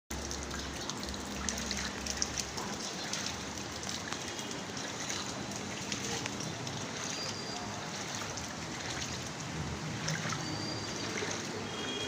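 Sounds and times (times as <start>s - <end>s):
rain falling: 0.1s - 12.0s.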